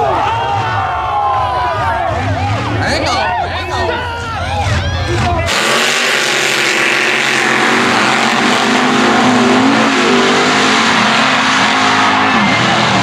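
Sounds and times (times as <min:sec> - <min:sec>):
truck engines at full throttle: 0:00.0 - 0:13.0.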